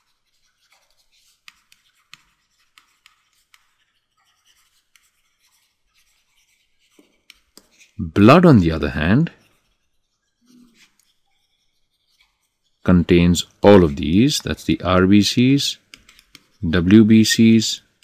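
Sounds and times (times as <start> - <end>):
stylus writing on tablet: 0.0 - 18.0.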